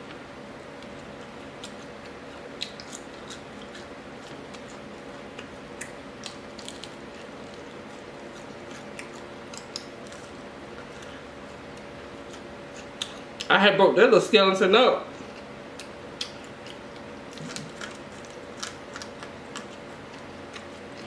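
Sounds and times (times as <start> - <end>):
low background hum: 0.0 - 21.0
chewing: 0.8 - 13.5, 15.2 - 21.0.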